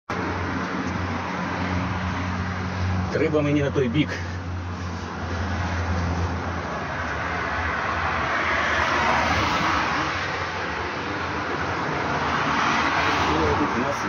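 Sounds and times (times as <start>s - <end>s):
road traffic noise: 0.1s - 14.0s
vehicle passing: 0.2s - 14.0s.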